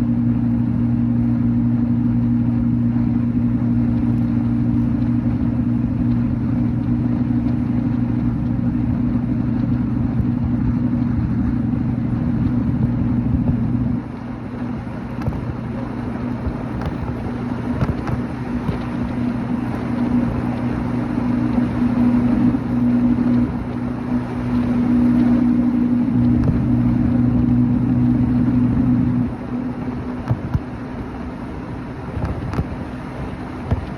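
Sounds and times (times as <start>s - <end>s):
motorcycle engine cruising: 0.0s - 33.9s
road and wind noise: 0.0s - 33.9s.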